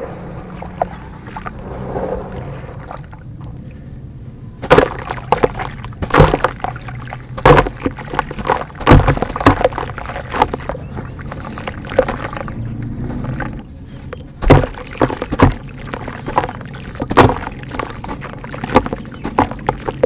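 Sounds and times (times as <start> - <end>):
dirt crunching and crackling: 0.0 - 20.0
water pouring and sloshing: 0.0 - 20.0.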